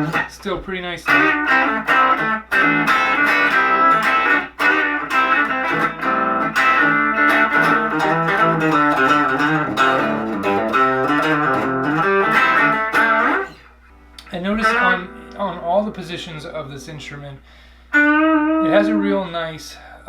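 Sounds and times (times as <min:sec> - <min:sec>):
electric guitar riffs: 0:00.0 - 0:19.6.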